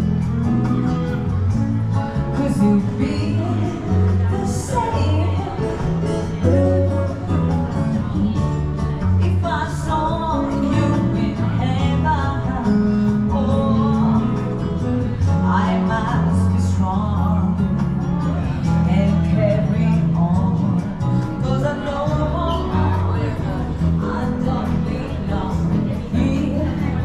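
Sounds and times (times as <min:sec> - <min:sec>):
guitar: 0:00.0 - 0:27.0
steady bass line: 0:00.0 - 0:27.0
person singing: 0:02.0 - 0:27.0.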